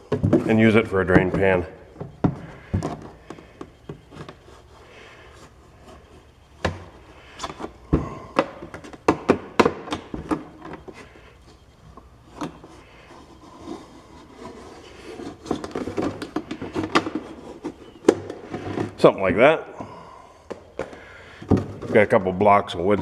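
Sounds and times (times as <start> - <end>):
plastic jug knocking and scraping: 0.0 - 4.6, 6.6 - 11.3, 12.3 - 19.3, 20.5 - 23.0.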